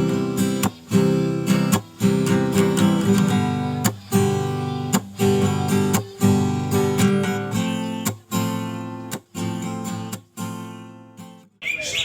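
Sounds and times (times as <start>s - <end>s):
strummed acoustic guitar chords: 0.0s - 11.5s.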